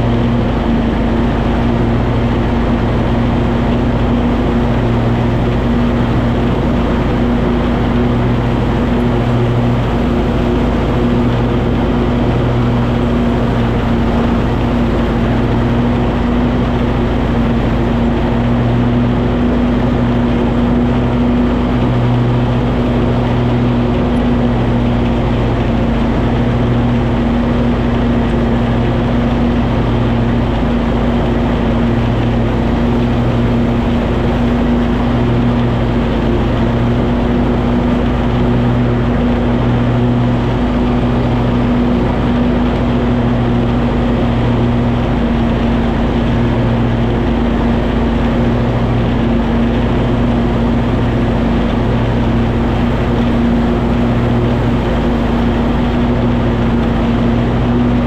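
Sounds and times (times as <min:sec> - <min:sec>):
garden tractor engine running: 0:00.0 - 0:58.0
mower deck noise: 0:00.0 - 0:58.0.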